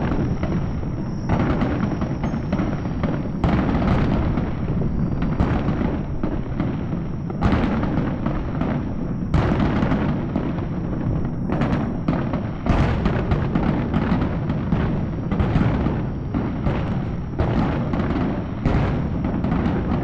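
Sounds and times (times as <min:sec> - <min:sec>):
fireworks crackling and booming: 0:00.0 - 0:20.0
loud firework bursts: 0:00.0 - 0:20.0.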